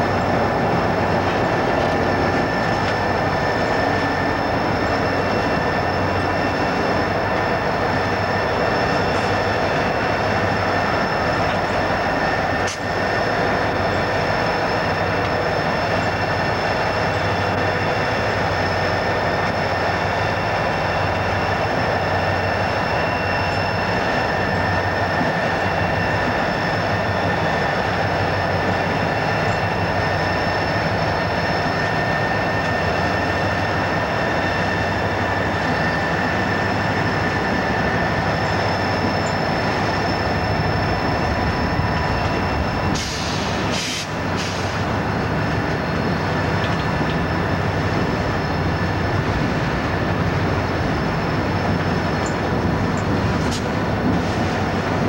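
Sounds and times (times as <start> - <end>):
diesel locomotive engines rumbling: 0.0 - 55.0.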